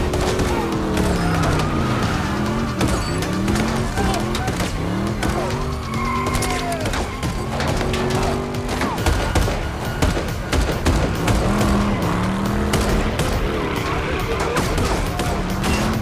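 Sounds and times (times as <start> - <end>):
gunshots and impacts: 0.0 - 5.7, 6.8 - 16.0
car engine revving: 0.0 - 16.0
film music score: 0.0 - 16.0
tyres skidding on wet pavement: 0.0 - 16.0.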